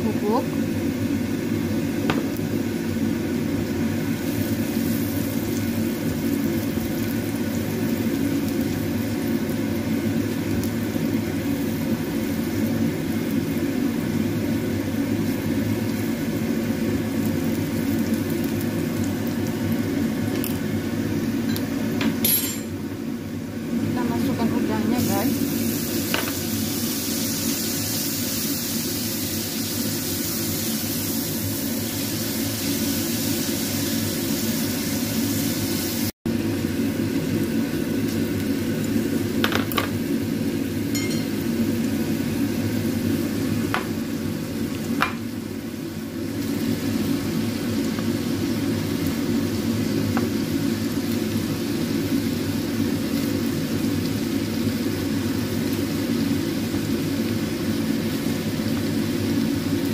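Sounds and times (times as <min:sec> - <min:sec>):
shrimp sizzling in hot oil: 0:00.0 - 0:59.9.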